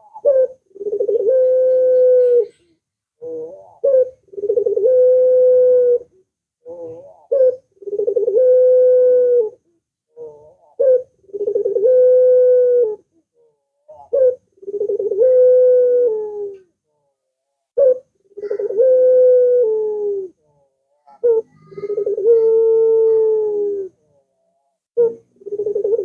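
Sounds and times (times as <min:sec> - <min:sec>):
dove cooing: 0:00.0 - 0:17.2, 0:17.8 - 0:26.0.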